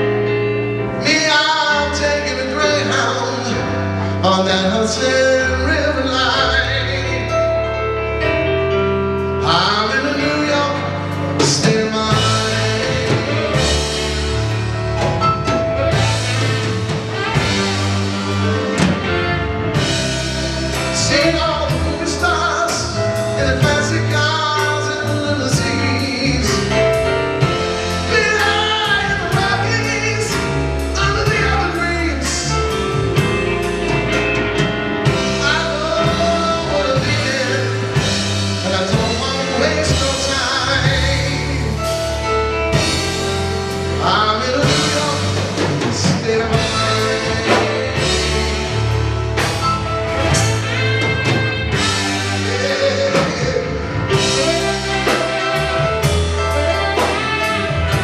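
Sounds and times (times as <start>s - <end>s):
drum kit: 0.0s - 58.0s
electric bass: 0.0s - 58.0s
electric guitar: 0.0s - 58.0s
piano: 0.0s - 58.0s
man singing lead: 1.0s - 7.8s, 9.4s - 17.6s, 19.7s - 33.7s, 35.0s - 58.0s.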